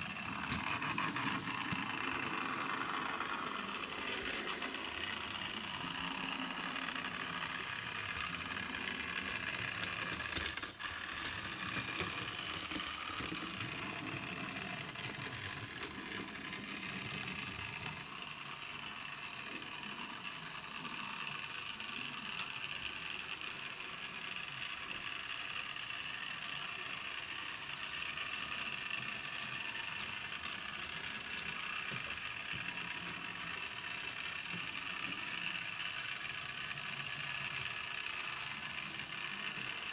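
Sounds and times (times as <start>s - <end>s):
model tram motor whirring: 0.0s - 39.9s.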